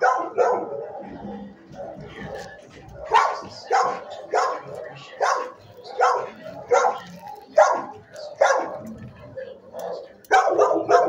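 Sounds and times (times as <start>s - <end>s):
dog barking: 0.0s - 2.4s, 3.0s - 8.9s, 9.7s - 11.0s.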